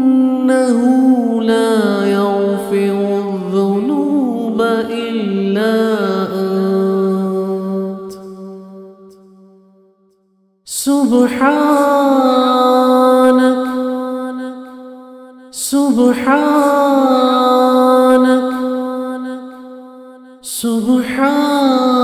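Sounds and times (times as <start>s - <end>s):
person chanting wordless held notes: 0.0s - 8.9s, 10.7s - 22.0s.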